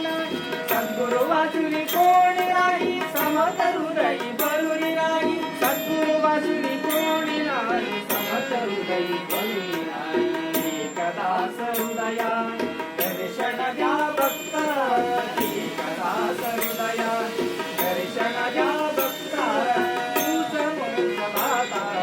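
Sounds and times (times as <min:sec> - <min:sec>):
person singing devotional song: 0:00.0 - 0:22.0
sharp percussion strokes: 0:00.0 - 0:22.0.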